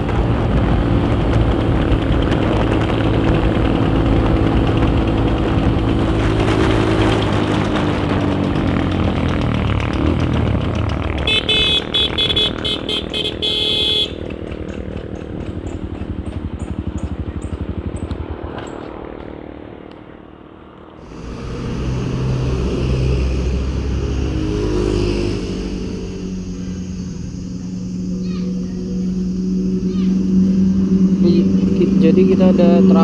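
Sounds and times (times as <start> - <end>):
motorcycle engine running: 0.0 - 33.0
motorcycle riding noise: 0.0 - 33.0.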